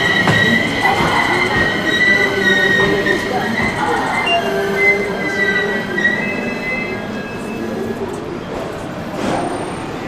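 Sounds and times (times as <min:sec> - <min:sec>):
electric train wheels squealing: 0:00.0 - 0:08.1.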